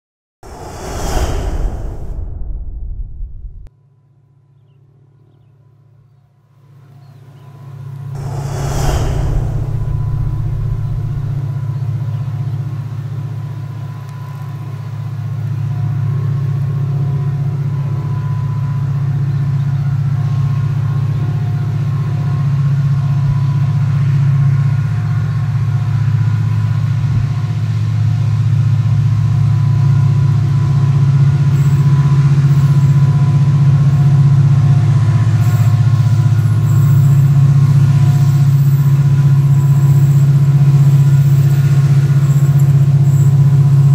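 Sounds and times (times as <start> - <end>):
diesel locomotive engines droning: 4.4 - 43.9.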